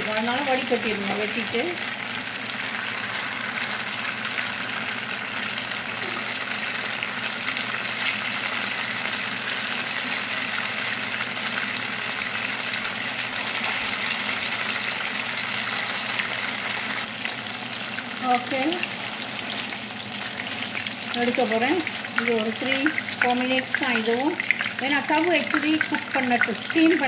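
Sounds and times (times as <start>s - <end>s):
oil sizzling in a frying pan: 0.0s - 27.0s.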